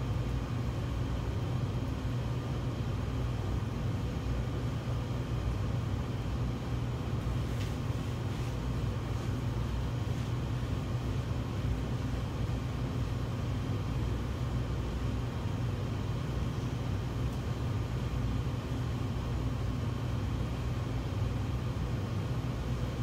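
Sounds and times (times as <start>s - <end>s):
kitchen machinery hum: 0.0s - 23.0s.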